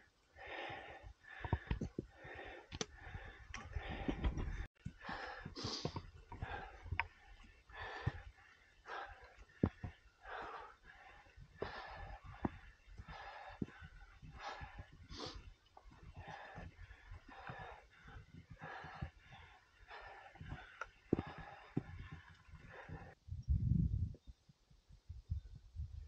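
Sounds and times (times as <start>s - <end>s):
person breathing hard: 0.4s - 23.2s.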